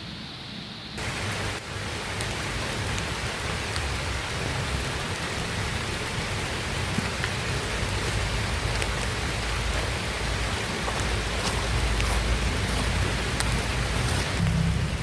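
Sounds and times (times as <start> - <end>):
drops ticking: 1.0 - 15.0
heavy rain pattering: 1.0 - 15.0.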